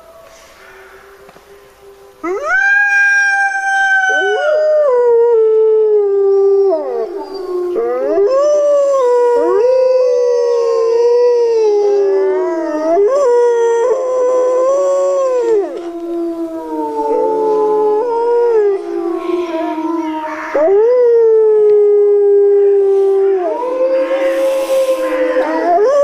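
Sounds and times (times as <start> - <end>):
wolves howling: 2.2 - 26.0.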